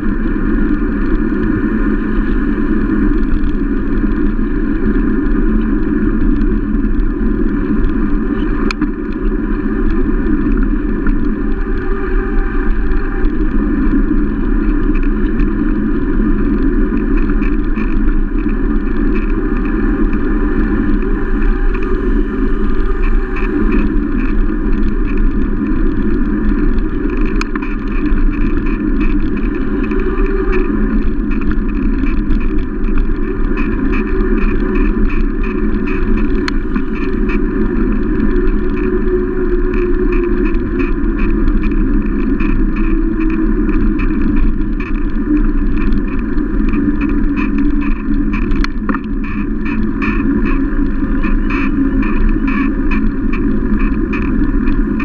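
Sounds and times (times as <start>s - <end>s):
road rumble: 0.0s - 55.0s
wind on microphone: 0.0s - 55.0s.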